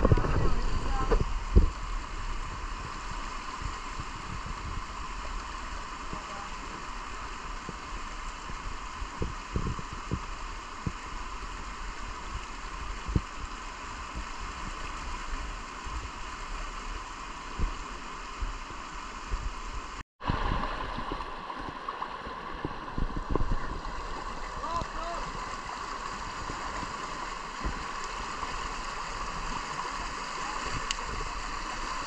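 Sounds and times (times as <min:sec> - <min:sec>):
rushing river rapids: 0:00.0 - 0:32.0.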